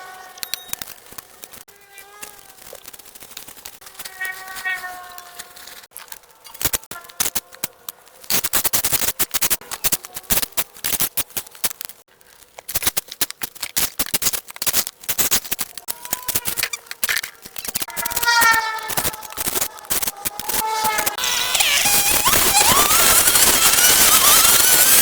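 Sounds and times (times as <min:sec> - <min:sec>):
rapid scraping and clicking: 0:00.0 - 0:04.5, 0:05.1 - 0:25.0.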